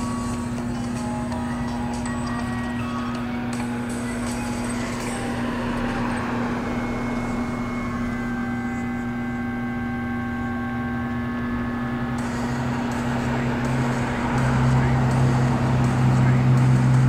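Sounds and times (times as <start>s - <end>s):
faint held tones: 0.0s - 14.8s
constant rumbling: 0.0s - 17.0s
low hum: 0.0s - 17.0s.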